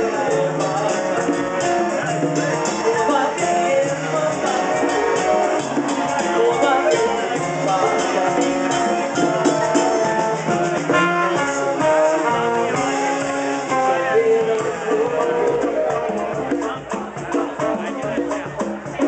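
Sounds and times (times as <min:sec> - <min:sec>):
live band with guitar: 0:00.0 - 0:19.0.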